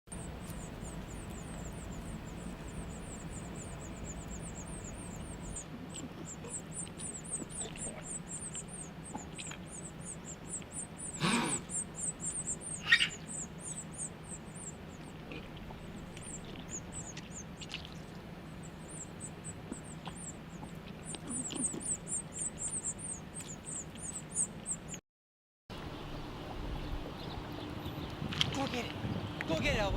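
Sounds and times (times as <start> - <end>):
baby birds peeping: 0.1 - 25.0, 26.2 - 29.9.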